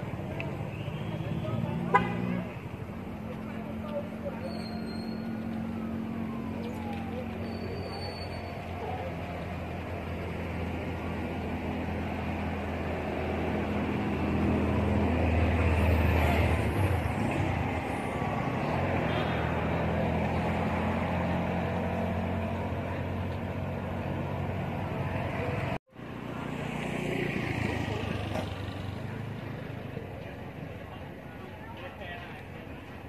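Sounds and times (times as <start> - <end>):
road traffic engine hum: 0.0 - 33.0.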